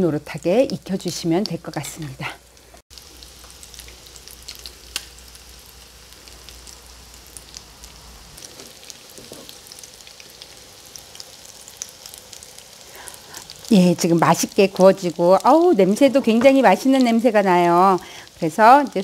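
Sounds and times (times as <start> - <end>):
fish patties sizzling in oil: 0.0 - 19.0.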